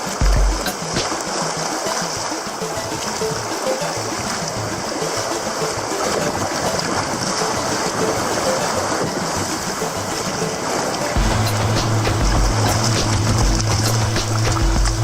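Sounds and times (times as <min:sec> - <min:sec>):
sea water rushing: 0:00.0 - 0:15.0.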